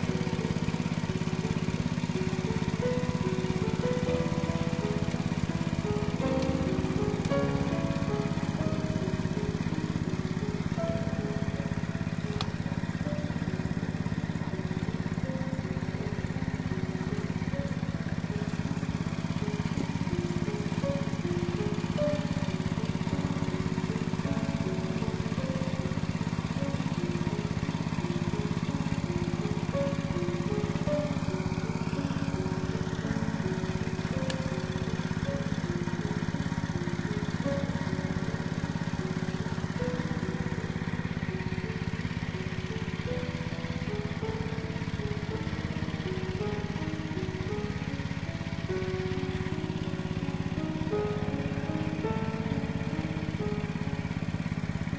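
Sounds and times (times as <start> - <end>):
background music: 0.0 - 54.9
small engine running: 0.0 - 54.9.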